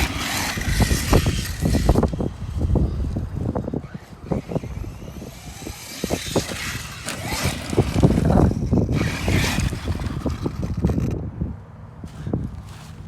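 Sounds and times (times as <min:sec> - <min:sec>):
electric motor whining: 0:00.0 - 0:11.2
tyres churning dirt: 0:00.0 - 0:11.2.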